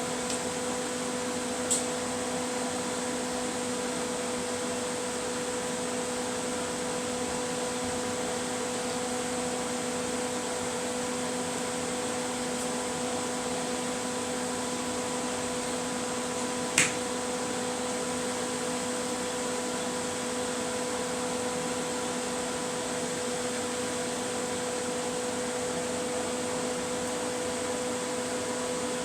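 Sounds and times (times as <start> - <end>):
mechanical fan hum: 0.0 - 29.0.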